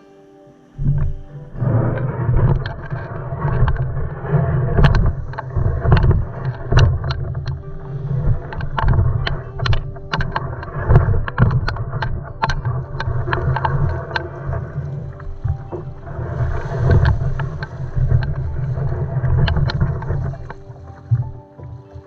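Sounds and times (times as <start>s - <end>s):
paddle splashing and dripping: 0.0s - 22.0s
low rumble of water: 0.8s - 22.0s.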